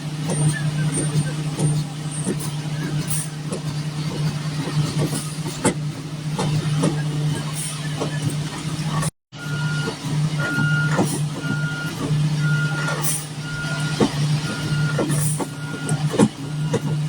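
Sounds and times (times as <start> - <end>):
truck engine running: 0.0 - 17.0
truck backup alarm beeping: 0.2 - 3.7, 6.4 - 17.0.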